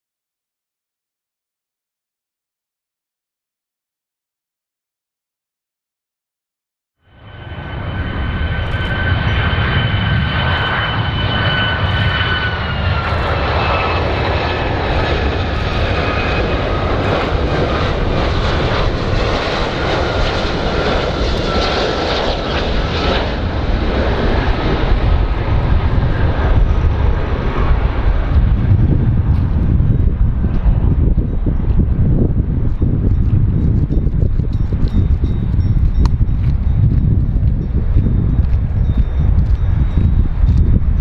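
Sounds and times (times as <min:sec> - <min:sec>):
high jet whine: 0:07.0 - 0:41.0
jet engines on approach: 0:07.0 - 0:41.0.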